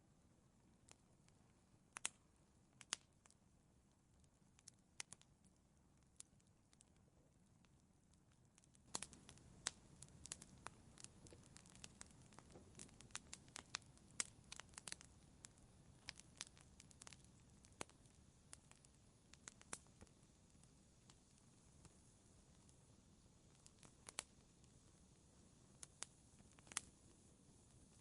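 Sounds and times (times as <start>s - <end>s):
wood fire crackling: 0.5s - 28.0s.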